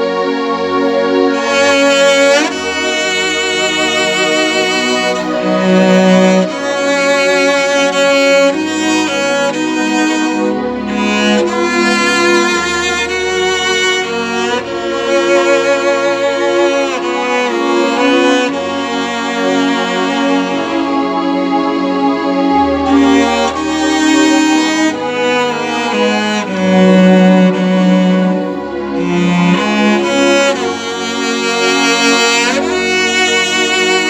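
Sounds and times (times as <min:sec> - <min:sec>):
violin and cello slow melody: 0:00.0 - 0:34.0.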